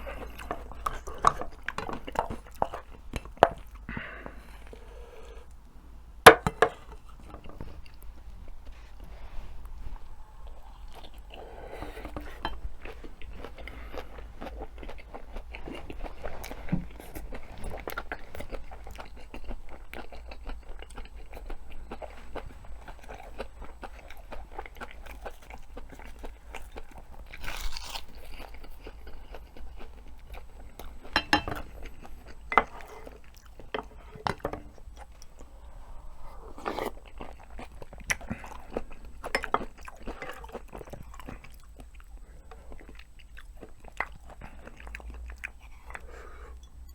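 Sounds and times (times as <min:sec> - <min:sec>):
chewing and crunching: 0:00.0 - 0:05.6, 0:06.4 - 0:46.9.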